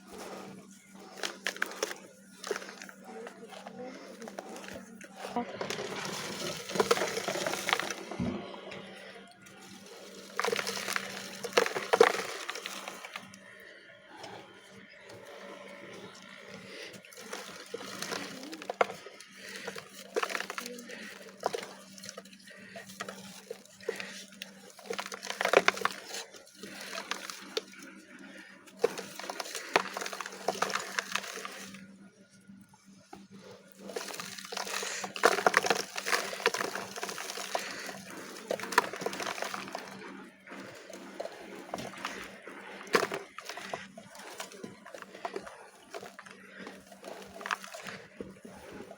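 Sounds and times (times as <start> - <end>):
dry clay crumbling and crunching: 0.0 - 48.9.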